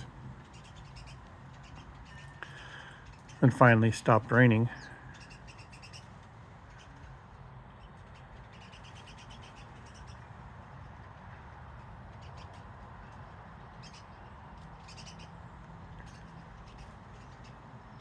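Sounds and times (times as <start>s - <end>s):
low background rumble: 0.0s - 18.0s
small birds chirping: 0.0s - 18.0s.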